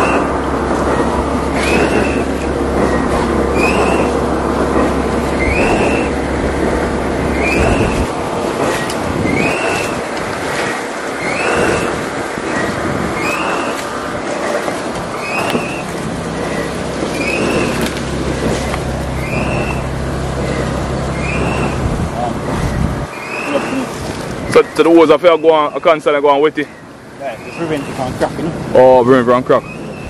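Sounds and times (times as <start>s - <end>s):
concrete mixer rumbling: 0.0s - 30.0s
mixer squeaking: 0.0s - 30.0s.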